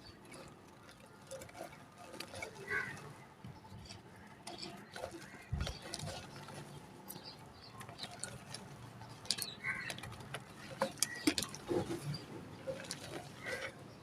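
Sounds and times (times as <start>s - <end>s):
dried mud crumbling: 0.0s - 14.0s.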